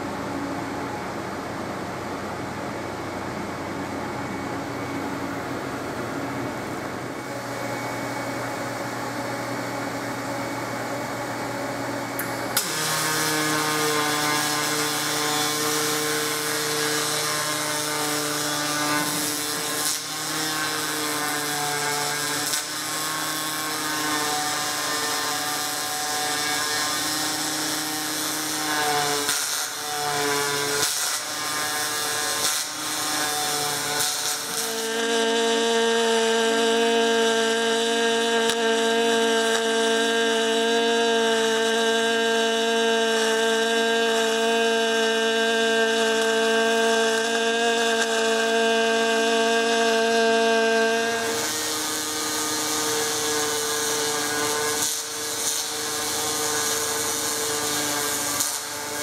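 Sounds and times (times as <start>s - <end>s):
welding arc buzzing: 0.0s - 59.0s.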